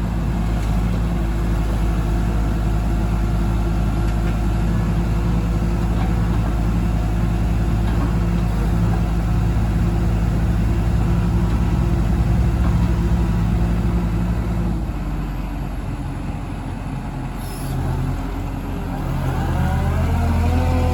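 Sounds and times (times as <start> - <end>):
diesel excavator engine running: 0.0 - 20.9.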